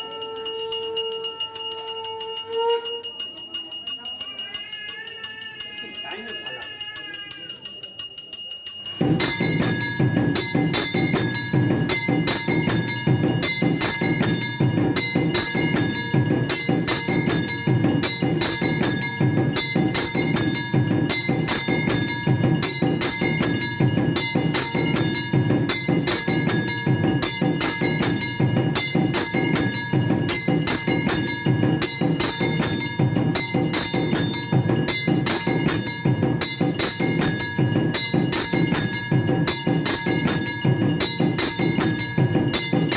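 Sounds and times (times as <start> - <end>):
bells ringing: 0.0 - 42.9
rapid percussion beat: 0.0 - 42.9.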